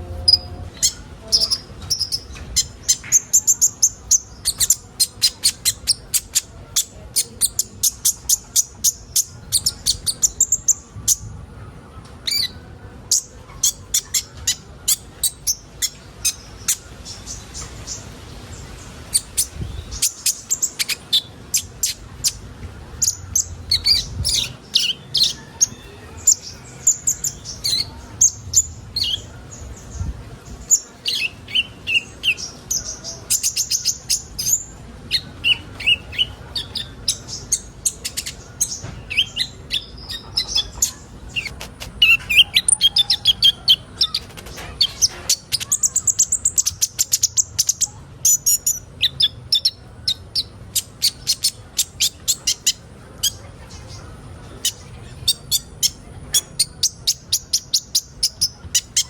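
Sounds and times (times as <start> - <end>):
sunbirds chirping and singing: 0.0 - 59.0.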